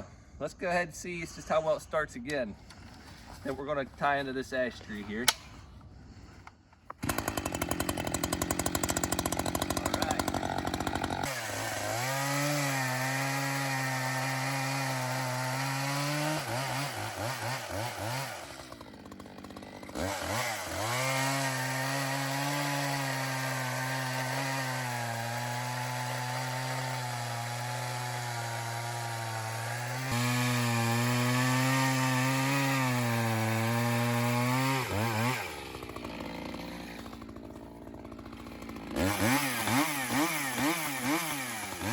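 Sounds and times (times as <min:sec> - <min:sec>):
chainsaw cutting wood: 0:06.8 - 0:41.9.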